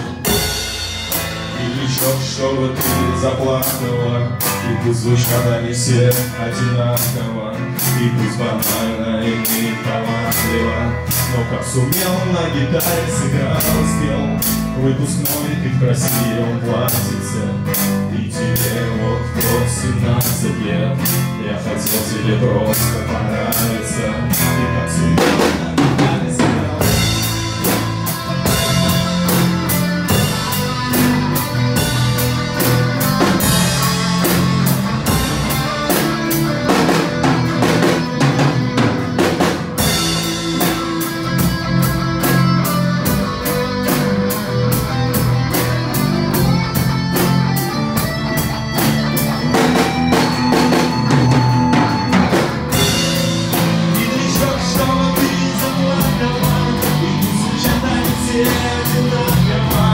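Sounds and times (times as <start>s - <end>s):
bass guitar: 0.0s - 59.9s
drum kit beat: 0.0s - 59.9s
guitar melody: 0.0s - 59.9s.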